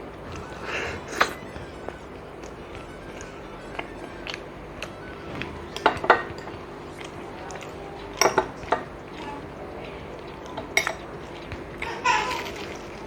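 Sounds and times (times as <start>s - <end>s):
plates and dishes clinking: 0.0s - 13.0s.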